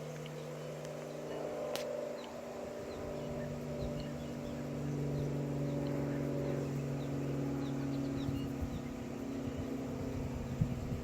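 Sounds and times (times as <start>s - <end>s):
motor drone: 0.0s - 11.0s.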